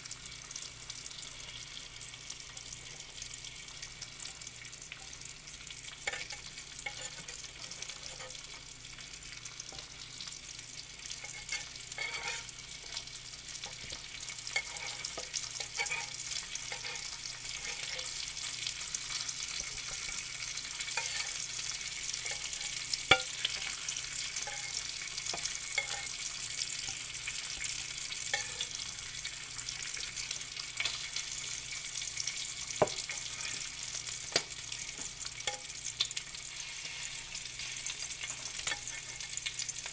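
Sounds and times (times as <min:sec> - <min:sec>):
bacon sizzling in fat: 0:00.0 - 0:39.9.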